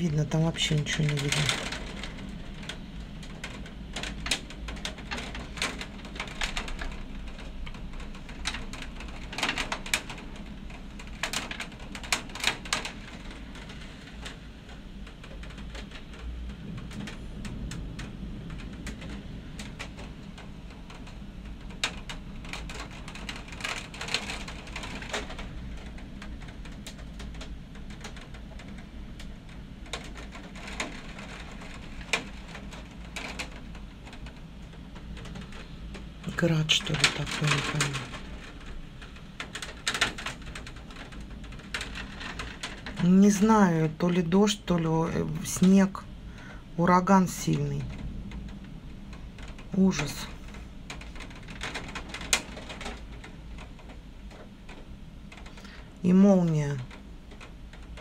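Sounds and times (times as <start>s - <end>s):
low wind rumble: 0.0s - 58.0s
rain downpour: 0.0s - 58.0s
hail ticking on window glass: 0.1s - 58.0s.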